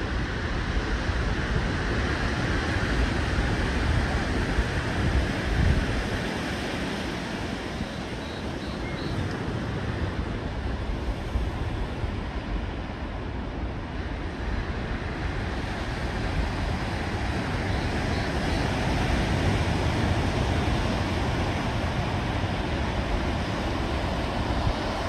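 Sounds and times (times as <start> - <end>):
wind gusting on microphone: 0.0 - 25.0
surf on rocky shore: 0.1 - 25.0.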